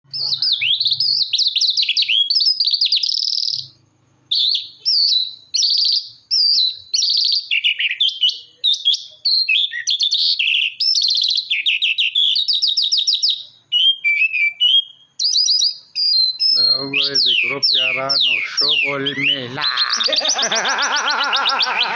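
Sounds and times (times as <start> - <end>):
lark singing: 0.1 - 21.9.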